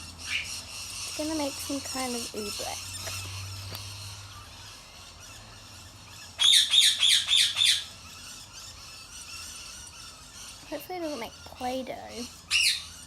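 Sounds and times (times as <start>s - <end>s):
bird squawking: 0.0s - 13.0s.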